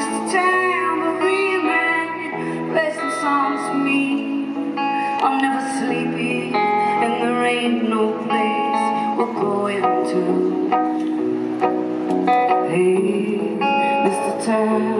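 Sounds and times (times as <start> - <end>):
woman singing into microphone: 0.0 - 11.0, 12.4 - 14.9
live band music: 2.6 - 14.9.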